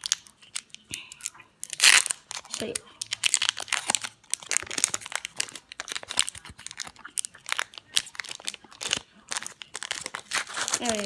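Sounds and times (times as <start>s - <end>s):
foil pack crinkling and tearing: 0.0s - 11.0s.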